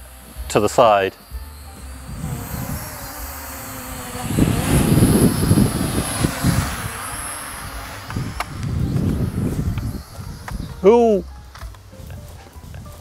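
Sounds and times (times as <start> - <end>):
drone propellers whining: 0.0 - 13.0
wind gusting on microphone: 1.8 - 13.0.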